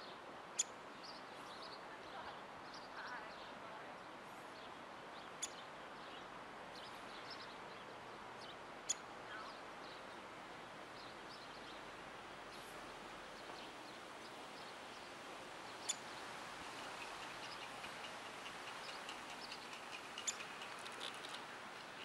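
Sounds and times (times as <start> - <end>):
outdoor background hiss: 0.0 - 22.0
small birds chirping: 0.0 - 22.0.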